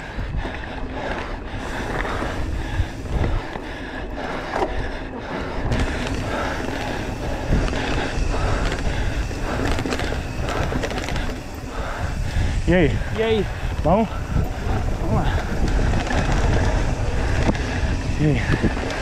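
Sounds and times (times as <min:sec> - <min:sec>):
bike rattling: 0:00.0 - 0:19.0
tyres on dirt trail: 0:00.0 - 0:19.0
wind buffeting microphone: 0:00.0 - 0:19.0.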